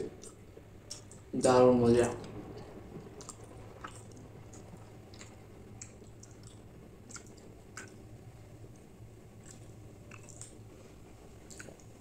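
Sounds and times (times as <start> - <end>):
wet eating clicks and smacks: 0.0 - 1.3, 2.2 - 10.7, 11.3 - 12.0
faint low hum: 0.0 - 12.0.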